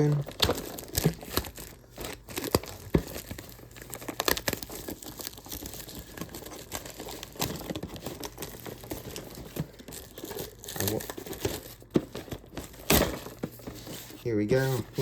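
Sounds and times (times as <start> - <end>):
plastic wrap crinkling and tearing: 0.0 - 15.0.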